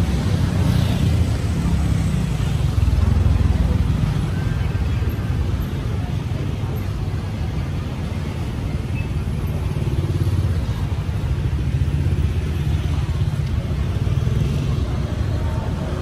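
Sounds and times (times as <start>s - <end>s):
motorbikes running: 0.0s - 16.0s
street traffic rumble: 0.0s - 16.0s.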